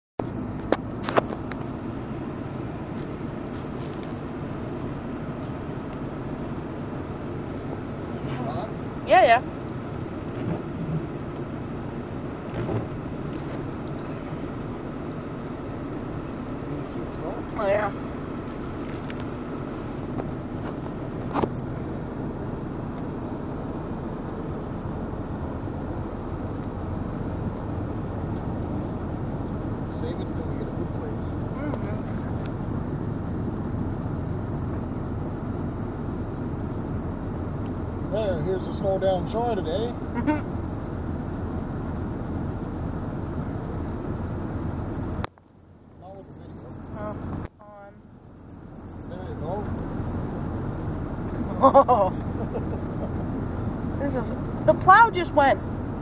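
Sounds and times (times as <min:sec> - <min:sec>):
tyres on snowy road: 0:00.2 - 0:56.0
vehicle engine and road noise: 0:00.2 - 0:56.0.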